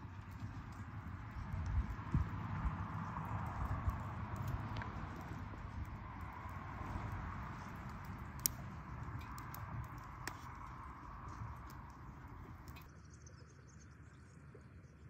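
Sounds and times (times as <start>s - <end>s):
low outdoor rush: 0.0s - 12.9s.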